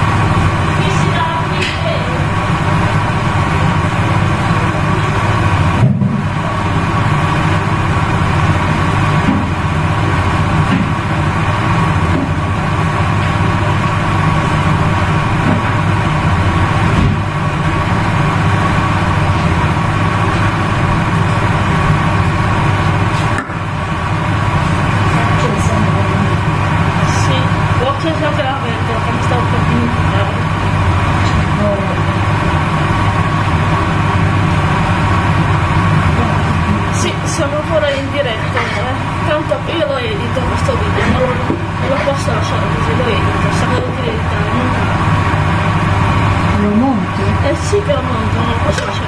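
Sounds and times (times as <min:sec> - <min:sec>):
motor humming: 0:00.0 - 0:49.0.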